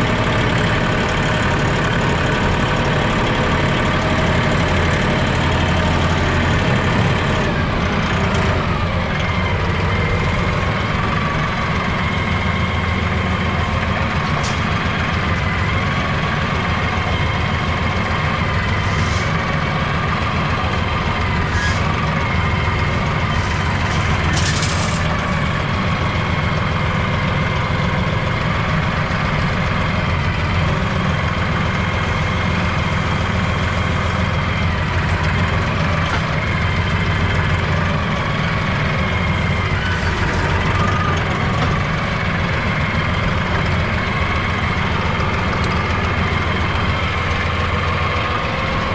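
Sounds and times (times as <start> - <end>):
engine running steadily: 0.0 - 48.9.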